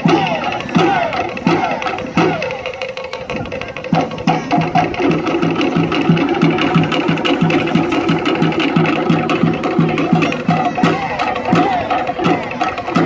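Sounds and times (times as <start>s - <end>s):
wooden log drums playing fast rhythm: 0.0s - 13.0s.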